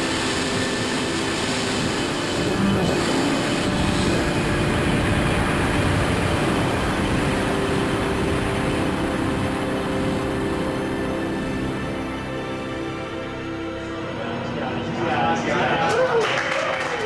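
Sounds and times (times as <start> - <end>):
rushing roar of air: 0.0 - 15.9
steady low hum: 0.0 - 15.9.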